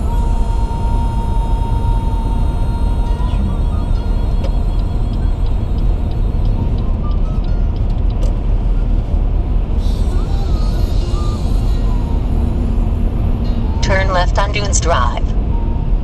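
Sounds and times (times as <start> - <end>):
car road noise at highway speed: 0.0 - 16.0.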